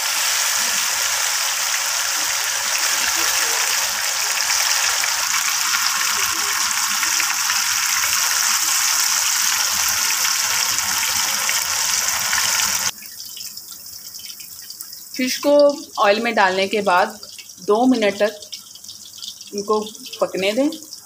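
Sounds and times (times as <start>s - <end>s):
fish deep-frying in hot oil: 0.0s - 21.0s.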